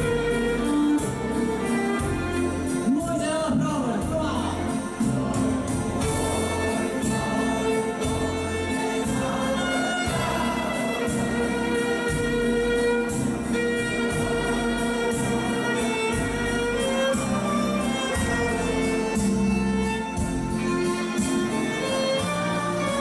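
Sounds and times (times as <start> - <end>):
violin playing: 0.0 - 23.0.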